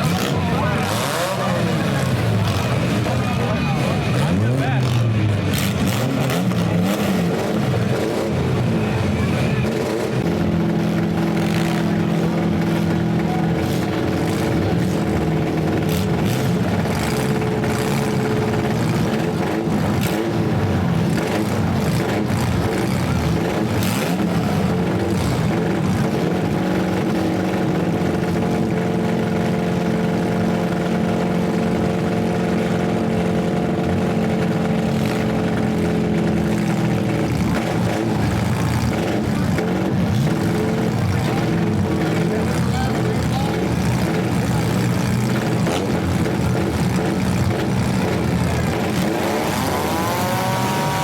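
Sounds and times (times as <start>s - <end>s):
car engines revving hard: 0.0s - 51.0s.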